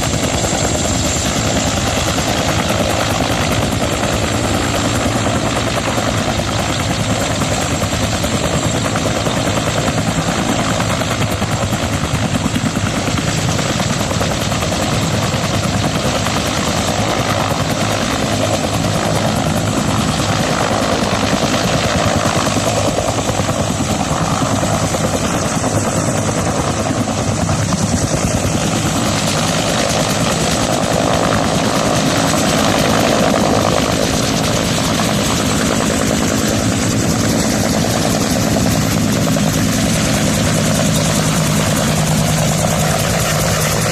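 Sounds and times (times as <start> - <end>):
helicopter rotor beat: 0.0 - 43.9.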